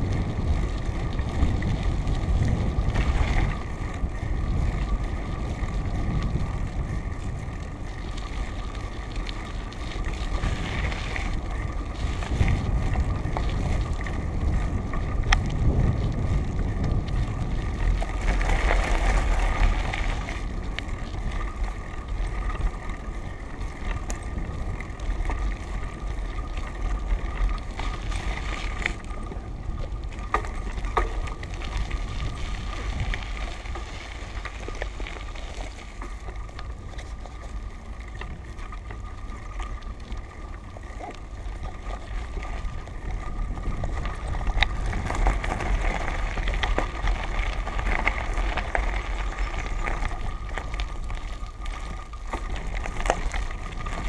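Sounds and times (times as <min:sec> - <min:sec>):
bicycle tyres crunching on gravel: 0:00.0 - 0:54.0
wind buffeting microphone: 0:00.0 - 0:54.0
clicks and rattles from bumps: 0:08.0 - 0:54.0.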